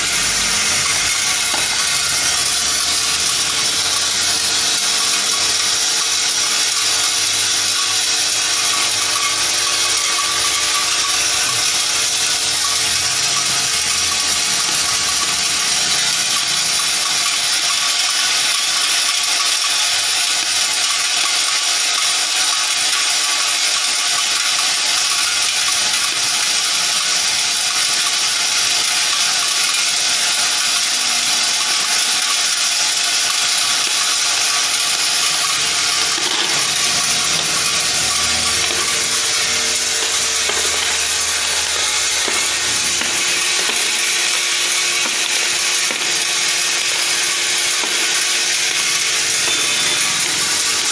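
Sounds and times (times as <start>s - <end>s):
metal pins rattling in bowl: 0.0s - 50.9s
steady machine hum: 0.0s - 50.9s.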